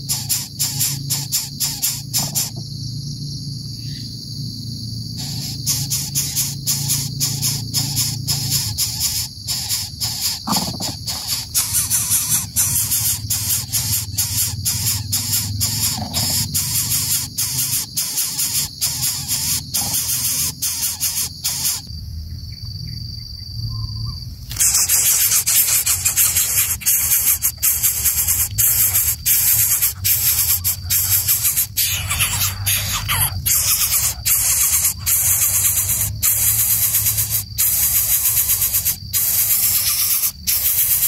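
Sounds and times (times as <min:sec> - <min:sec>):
insect chorus buzzing: 0:00.0 - 0:41.0.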